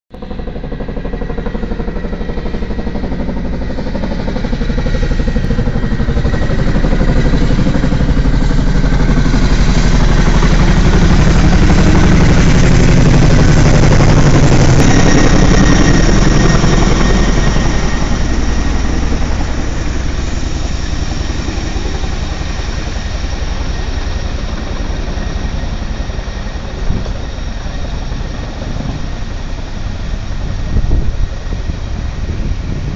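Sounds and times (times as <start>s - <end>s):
helicopter rotors beating: 0.1s - 32.9s.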